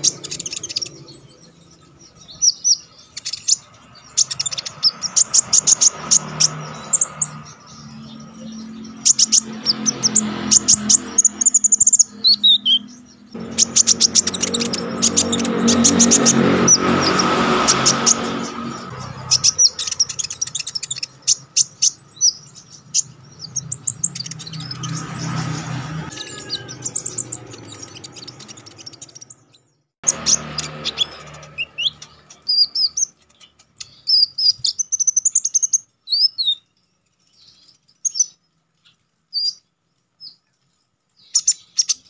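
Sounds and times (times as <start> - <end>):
bird singing high chirps: 0.0 - 42.0.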